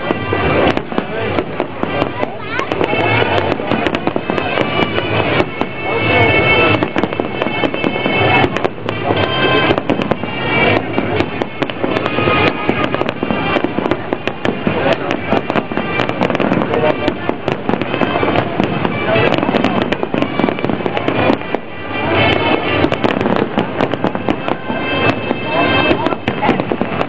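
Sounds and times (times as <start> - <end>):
fireworks bursting with bangs: 0.0 - 27.0.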